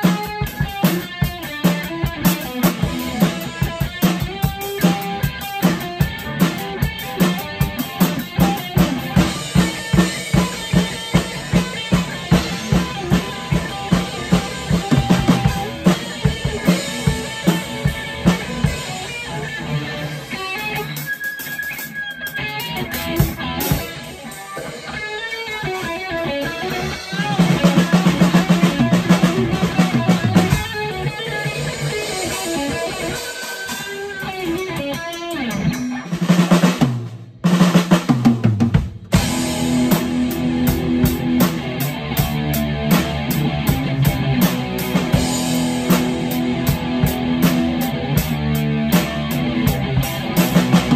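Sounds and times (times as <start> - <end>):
amplified guitar: 0.0 - 50.9
drum kit beat: 0.0 - 50.9.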